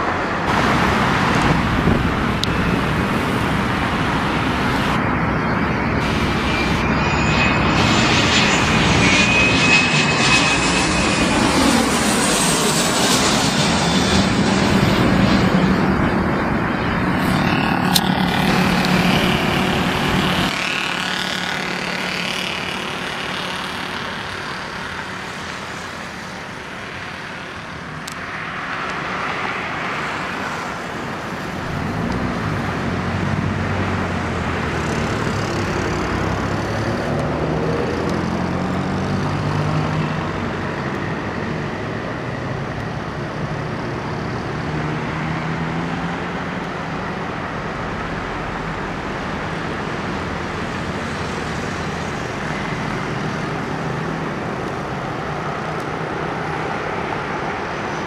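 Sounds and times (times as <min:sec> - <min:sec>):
jet airliner engines overhead: 0:00.0 - 0:58.0.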